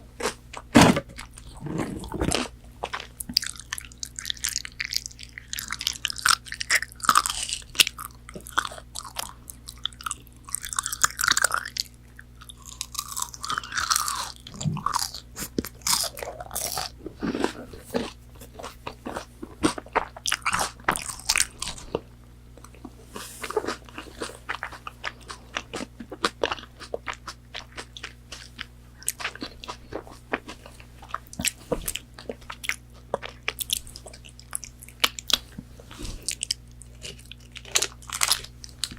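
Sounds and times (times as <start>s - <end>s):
crunchy bites and chewing: 0.2s - 38.9s.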